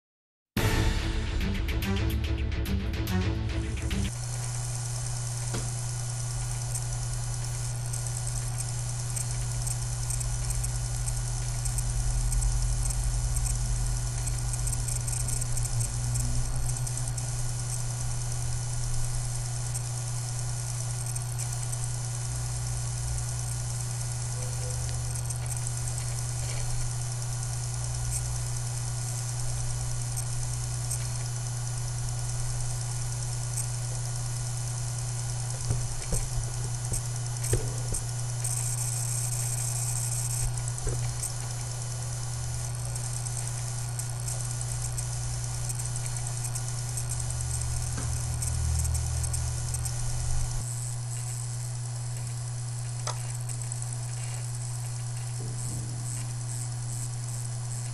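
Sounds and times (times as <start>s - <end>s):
low hum: 0.6s - 51.2s
electronic whine from laptop: 4.1s - 57.9s.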